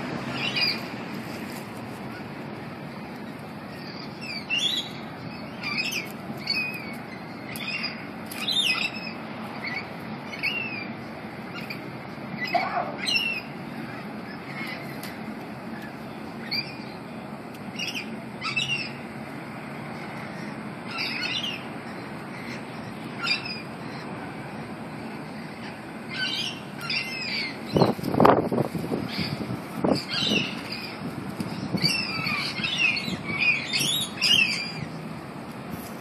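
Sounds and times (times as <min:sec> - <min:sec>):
small birds chirping: 0:00.3 - 0:00.9, 0:03.6 - 0:19.0, 0:19.8 - 0:24.3, 0:25.1 - 0:35.1.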